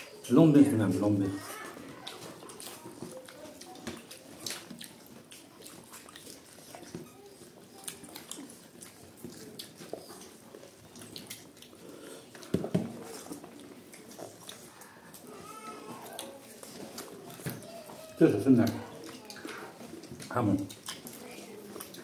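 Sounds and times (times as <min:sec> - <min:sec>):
people chewing food: 0:00.0 - 0:22.0.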